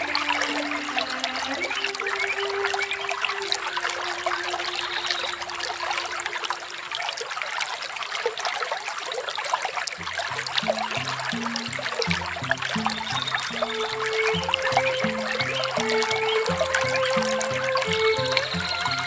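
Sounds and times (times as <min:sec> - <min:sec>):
soft background music: 0:00.0 - 0:06.6, 0:10.0 - 0:19.0
small waterfall splashing: 0:00.0 - 0:19.0.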